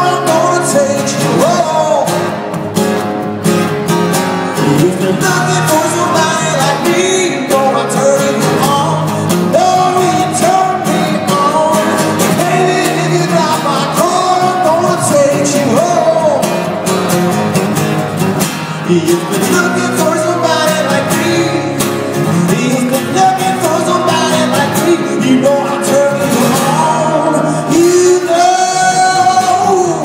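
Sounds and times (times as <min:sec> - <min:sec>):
person singing: 0:00.0 - 0:02.5, 0:04.6 - 0:16.9, 0:18.8 - 0:30.0
live band playing pop-rock: 0:00.0 - 0:30.0.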